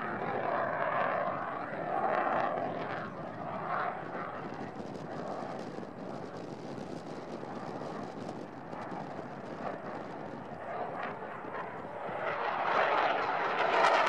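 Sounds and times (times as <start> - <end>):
jet flying overhead: 0.0 - 14.0.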